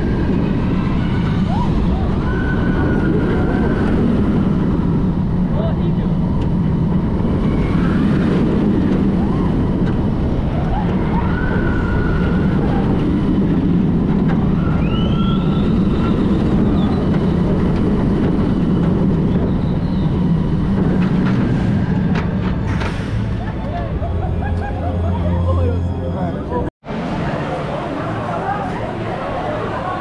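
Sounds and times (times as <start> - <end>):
roller coaster wheels rumbling on rails: 0.0 - 30.0.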